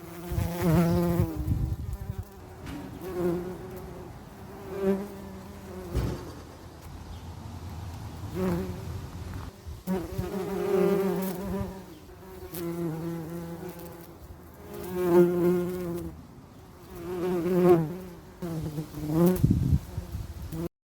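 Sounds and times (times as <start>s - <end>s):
bees buzzing: 0.0s - 20.7s.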